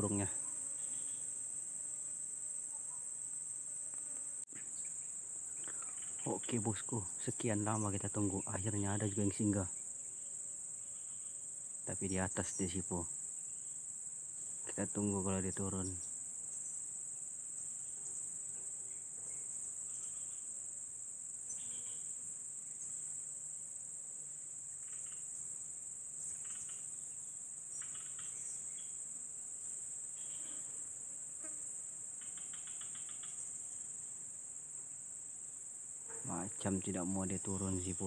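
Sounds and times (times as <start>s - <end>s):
high-pitched insect drone: 0.0s - 2.1s, 2.8s - 17.0s, 18.8s - 20.5s, 21.2s - 23.6s, 24.6s - 34.7s, 36.1s - 38.0s
insect chirps: 0.0s - 38.0s.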